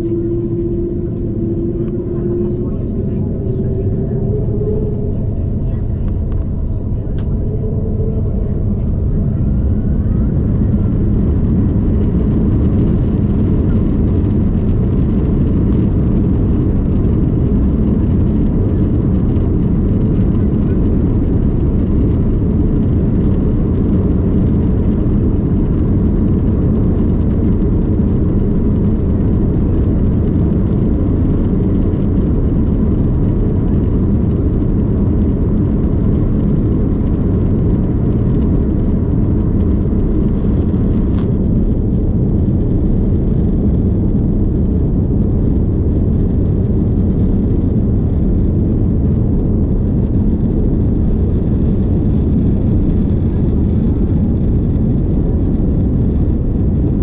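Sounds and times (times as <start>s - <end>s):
aircraft engine noise: 0.0s - 57.0s
wheels rumbling on runway: 0.0s - 57.0s.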